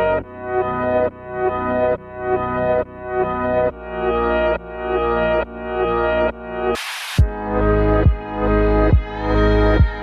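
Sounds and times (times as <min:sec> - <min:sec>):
bass: 0:00.0 - 0:10.0
pulsing synthesizer chords: 0:00.0 - 0:10.0.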